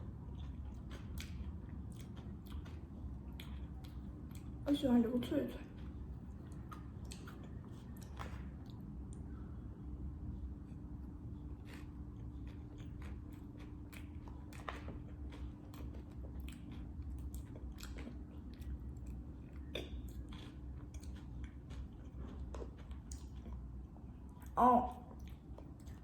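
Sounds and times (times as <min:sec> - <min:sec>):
chewing crunchy cake: 0:00.0 - 0:26.0
low electrical hum: 0:00.0 - 0:26.0.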